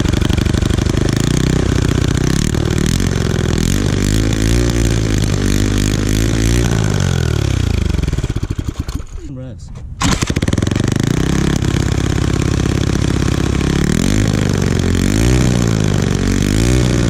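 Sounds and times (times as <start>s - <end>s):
engine running at high revs: 0.0s - 9.0s, 10.0s - 17.0s.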